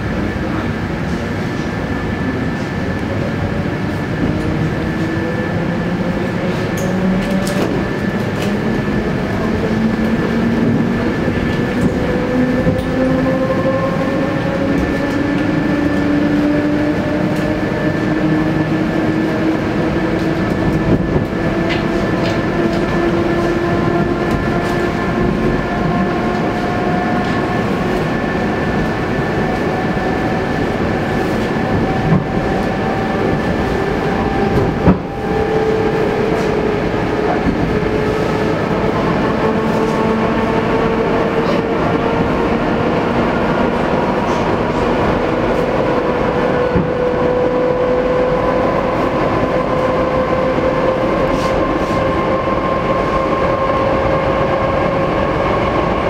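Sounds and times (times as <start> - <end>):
train wheels on track: 0.0 - 56.0.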